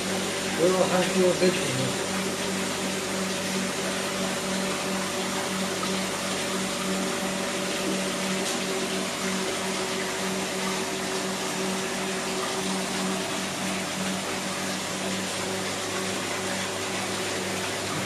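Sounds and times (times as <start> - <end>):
air pump humming: 0.0 - 18.0.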